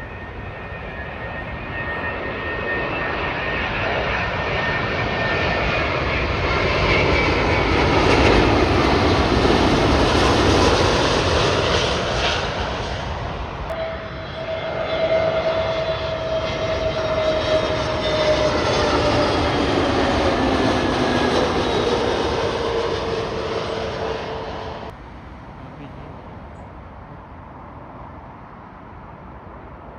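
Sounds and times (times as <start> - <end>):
aircraft engine whine falling in pitch: 0.0 - 25.0
jet engines roaring overhead: 0.0 - 29.9.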